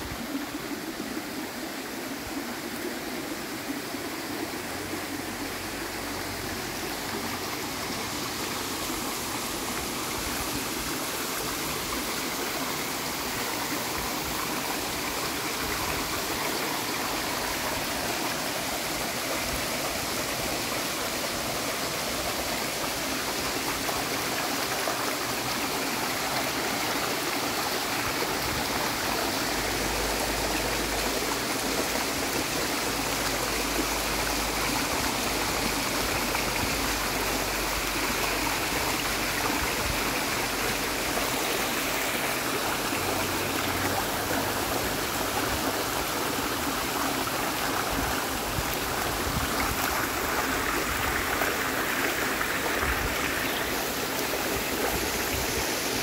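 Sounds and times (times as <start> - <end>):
waterfall splashing over boulders: 0.0 - 56.0.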